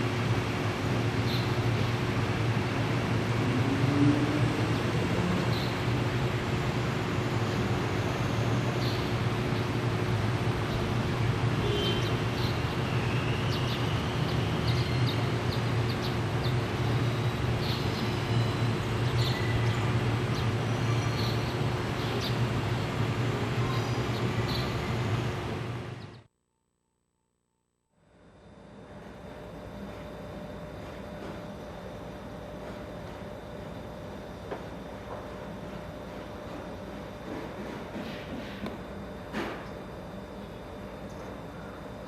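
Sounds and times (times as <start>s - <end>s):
low machinery hum: 0.0s - 26.3s, 27.6s - 42.0s.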